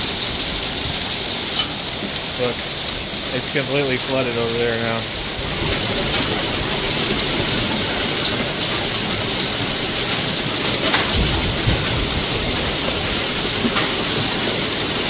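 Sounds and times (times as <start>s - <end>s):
heavy rain splashing into water: 0.0s - 15.0s.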